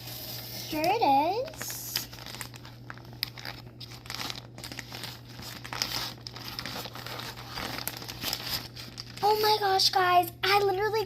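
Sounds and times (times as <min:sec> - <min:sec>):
packaging crinkling and tearing: 0:00.1 - 0:09.8.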